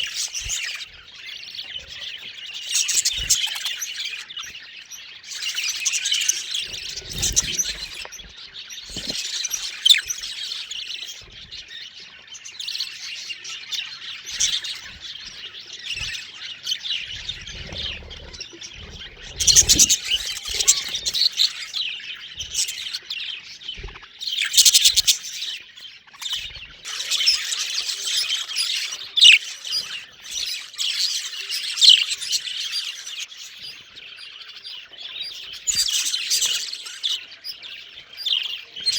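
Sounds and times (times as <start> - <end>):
budgies chirping: 0.0 - 38.9.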